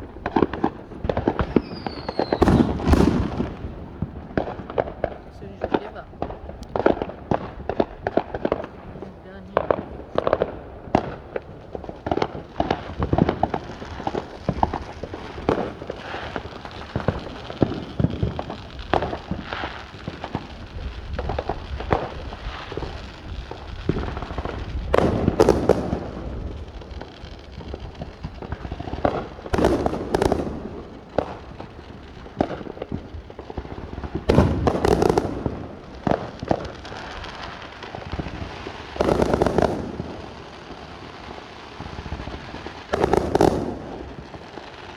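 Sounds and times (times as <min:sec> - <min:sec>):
fireworks bangs and crackling: 0:00.0 - 0:44.9
fireworks booms: 0:00.0 - 0:44.9.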